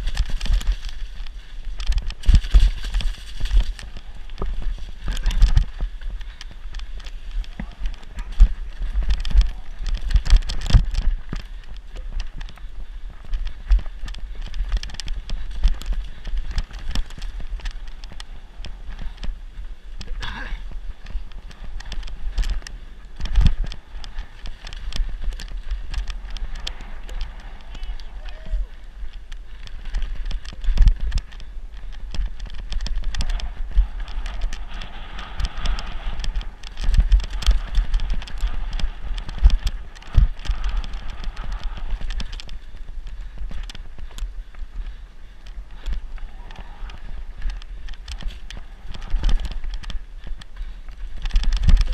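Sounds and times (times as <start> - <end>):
bike clattering over rough ground: 0.0 - 51.9
wind rumble on microphone: 0.0 - 51.9.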